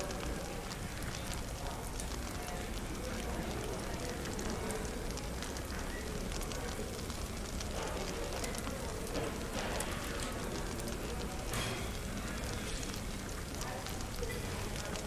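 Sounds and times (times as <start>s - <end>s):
fireplace crackling and popping: 0.0s - 15.0s
murmur of indistinct chatter: 0.0s - 15.0s.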